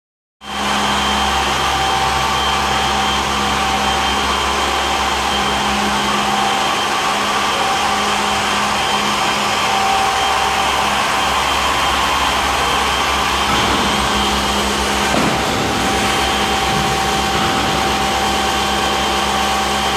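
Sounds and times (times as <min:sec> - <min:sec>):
machine whine: 0:00.4 - 0:19.9
suction machine air rush: 0:00.5 - 0:19.9.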